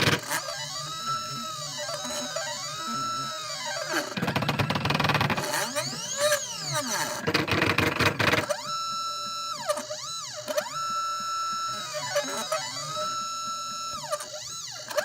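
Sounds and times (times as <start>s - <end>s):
stepper motors singing: 0.0s - 7.3s, 7.9s - 15.0s
harsh grinding rasp: 0.0s - 15.0s.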